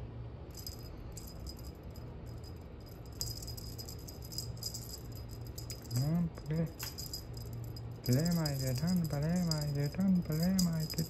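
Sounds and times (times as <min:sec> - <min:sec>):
faint low hum: 0:00.0 - 0:11.0
cat toy rattling: 0:00.5 - 0:11.0.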